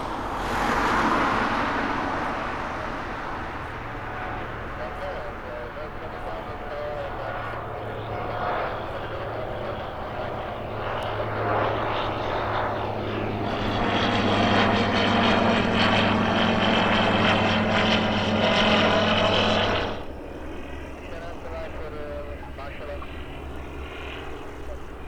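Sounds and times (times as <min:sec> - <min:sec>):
propeller aircraft engine: 0:00.0 - 0:25.0.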